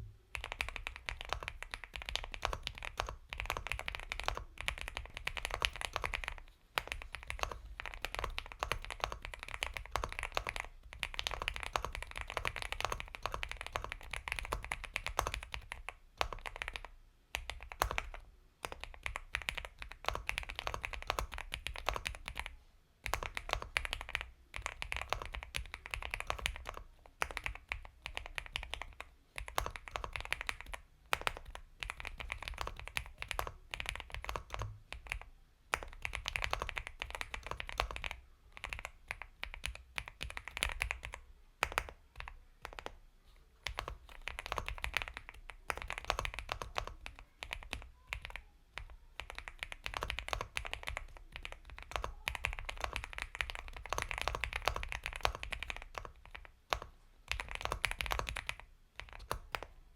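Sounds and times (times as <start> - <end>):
fast typing on mechanical keyboard: 0.3 - 43.0, 43.6 - 59.8.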